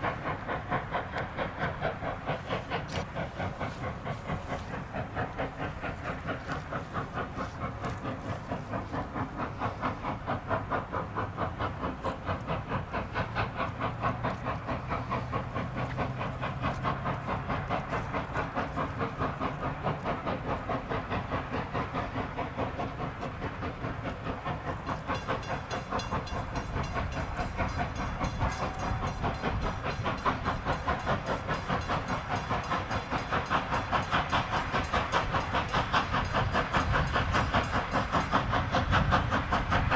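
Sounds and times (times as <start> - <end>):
high steam hiss: 0.0 - 39.9
steam train rhythmic chugging: 0.0 - 39.9.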